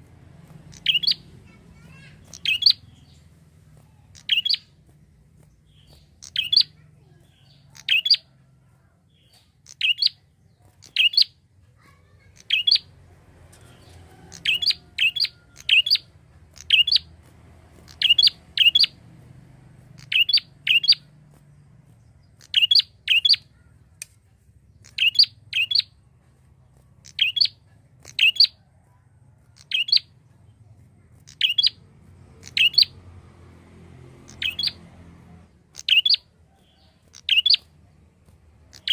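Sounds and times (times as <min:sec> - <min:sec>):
bird chirping: 0:00.1 - 0:38.9.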